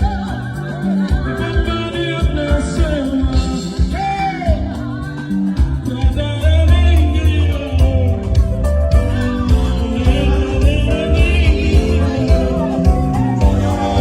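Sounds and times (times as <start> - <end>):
band playing: 0.0 - 14.0
bass line: 0.0 - 14.0
gospel singing: 0.0 - 14.0.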